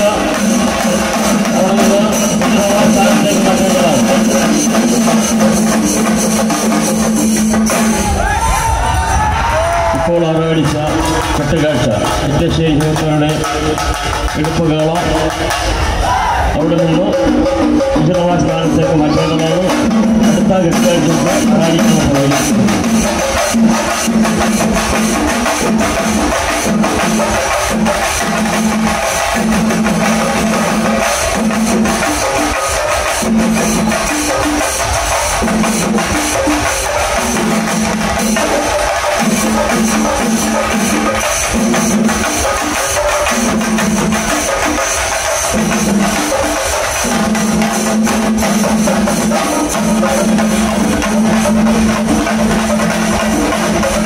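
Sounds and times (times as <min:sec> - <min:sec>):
hand cymbals: 0:00.0 - 0:09.3, 0:16.7 - 0:54.0
drums beaten in fast rhythm: 0:00.0 - 0:54.0.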